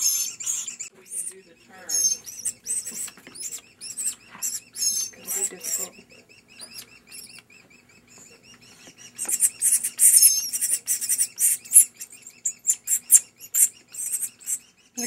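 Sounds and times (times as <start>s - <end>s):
nestling bird begging chirps: 0.0s - 15.0s.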